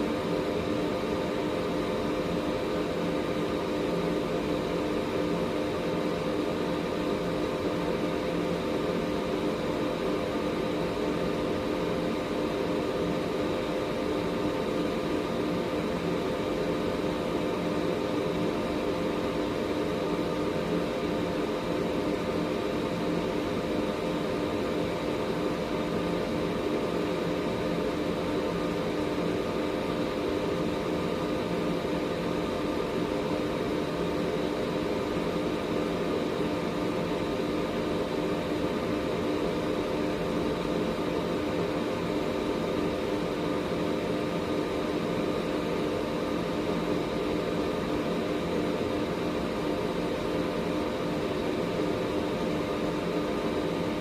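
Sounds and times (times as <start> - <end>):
air purifier running: 0.0 - 54.0.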